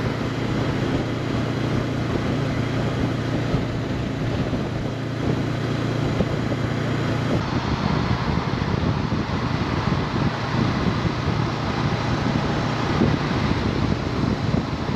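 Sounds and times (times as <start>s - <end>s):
motorcycle engine running: 0.0s - 14.9s
wind and road noise: 0.0s - 14.9s.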